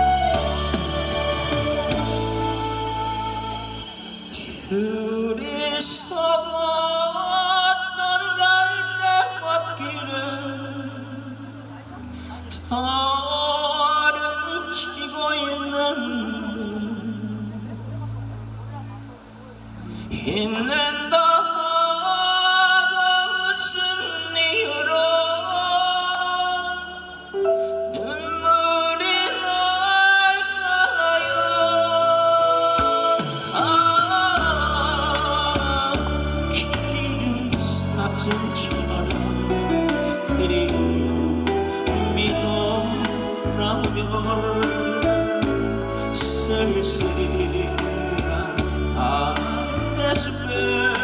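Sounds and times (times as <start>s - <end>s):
backing track music: 0.0s - 51.0s
man singing into microphone: 0.0s - 51.0s.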